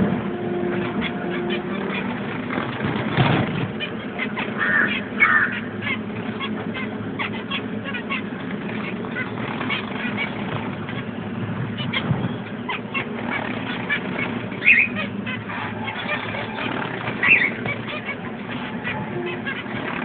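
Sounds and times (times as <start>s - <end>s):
pet birds chirping: 0.8s - 20.0s.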